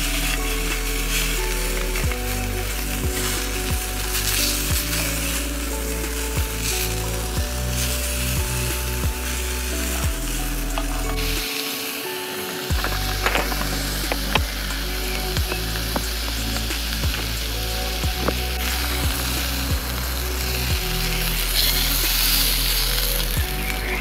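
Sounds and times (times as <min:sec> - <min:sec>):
music with a regular beat: 0:00.0 - 0:24.0
sausages sizzling in a pan: 0:00.0 - 0:24.0.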